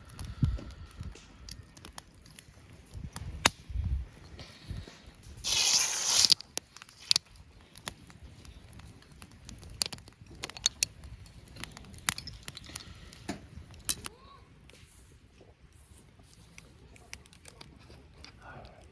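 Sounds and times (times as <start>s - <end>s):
campfire crackling: 0.0s - 18.9s.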